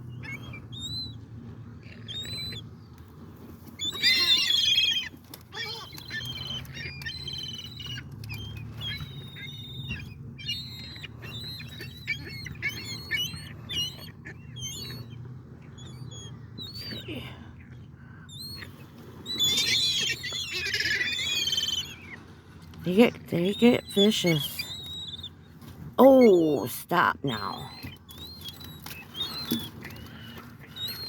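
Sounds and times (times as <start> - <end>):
gulls calling: 3.7 - 31.0.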